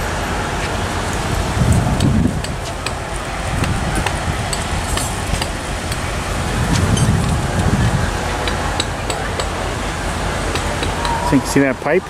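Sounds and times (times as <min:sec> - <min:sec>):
engine and traffic rumble: 0:00.0 - 0:12.0.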